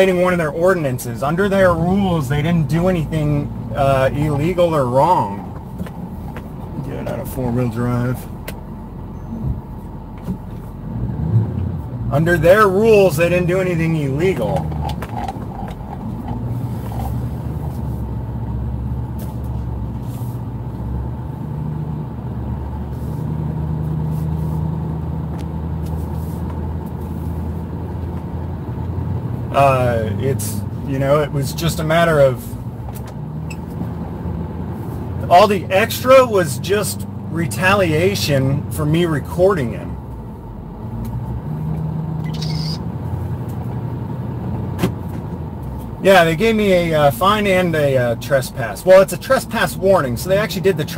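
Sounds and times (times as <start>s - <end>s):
engine and road noise in cab: 0.0s - 50.9s.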